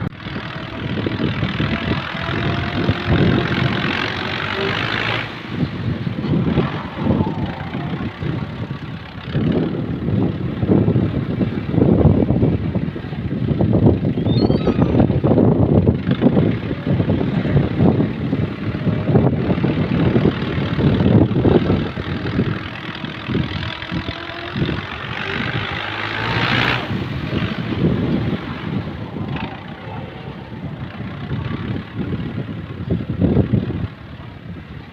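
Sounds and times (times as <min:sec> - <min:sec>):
tractor engine rumbling: 0:00.0 - 0:34.9.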